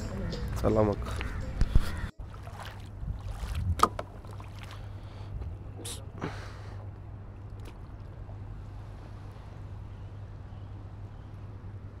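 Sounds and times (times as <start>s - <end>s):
water splashing and sloshing: 0.0s - 11.6s
steady low rumble: 1.3s - 12.0s.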